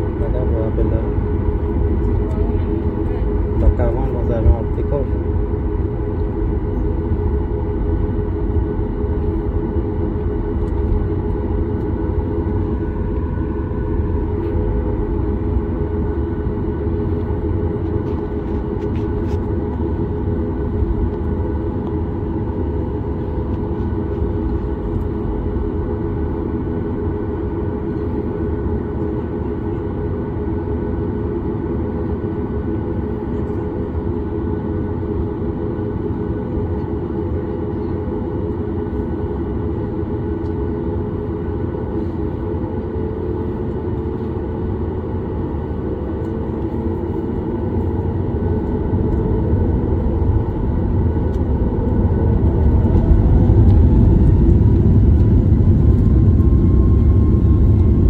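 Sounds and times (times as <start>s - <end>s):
jet engines idling: 0.0s - 58.0s
steady hums: 0.0s - 58.0s.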